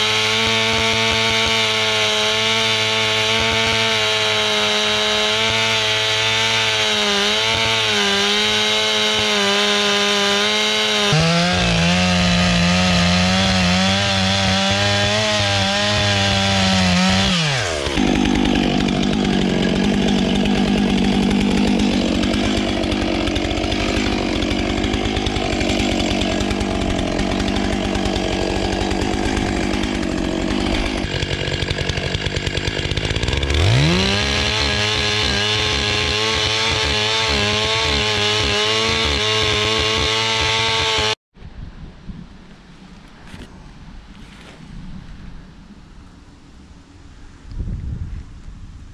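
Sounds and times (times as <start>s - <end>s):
chainsaw cutting wood: 0.0s - 41.2s.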